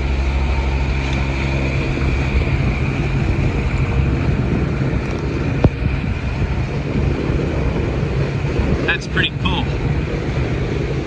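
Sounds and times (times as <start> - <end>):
boat engine humming: 0.0 - 11.0
wind and water rushing: 0.0 - 11.0.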